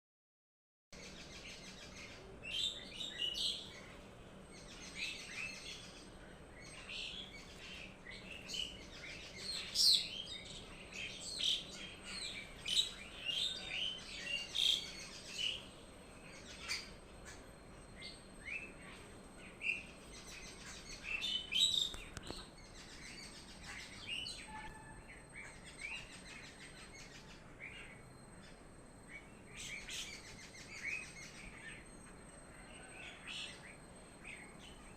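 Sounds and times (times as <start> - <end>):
birds chirping: 1.0 - 34.9.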